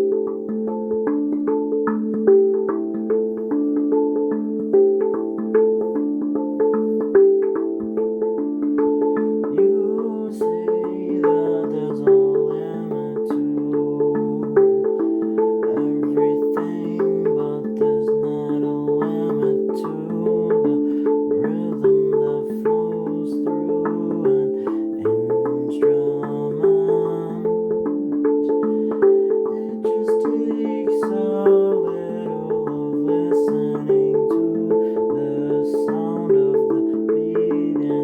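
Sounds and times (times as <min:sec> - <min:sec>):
handpan notes ringing: 0:00.0 - 0:38.0.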